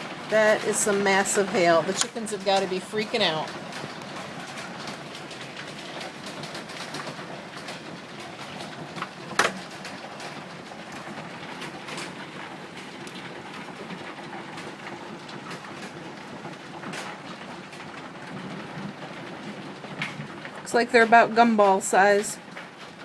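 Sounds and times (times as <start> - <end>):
hailstones clattering: 0.0 - 23.0.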